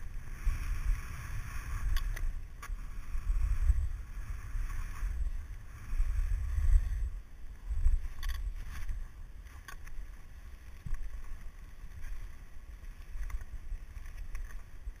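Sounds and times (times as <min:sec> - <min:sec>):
skis sliding over snow: 0:00.0 - 0:15.0
wind rumbling on microphone: 0:00.0 - 0:15.0.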